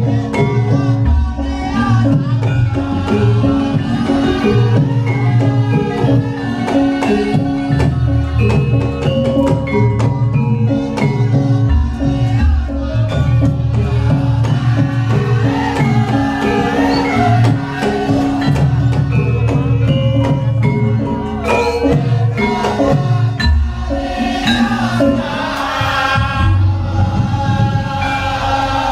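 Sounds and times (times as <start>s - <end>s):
gamelan ensemble music: 0.0s - 28.9s
person singing: 0.0s - 28.9s.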